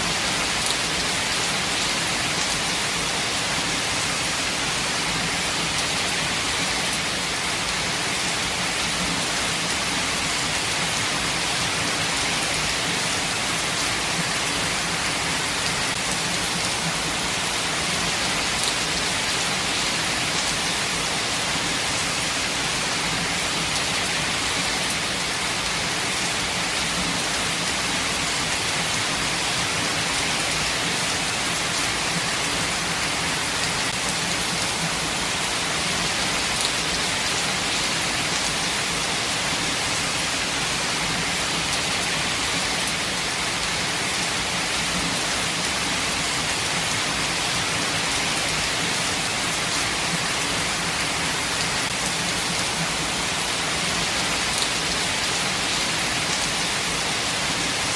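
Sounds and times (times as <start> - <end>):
steady rainfall: 0.0 - 57.9.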